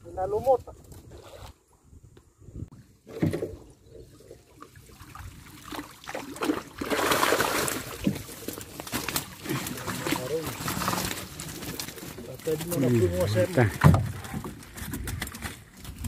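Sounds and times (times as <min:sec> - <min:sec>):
water pouring and dripping: 0:03.0 - 0:16.0.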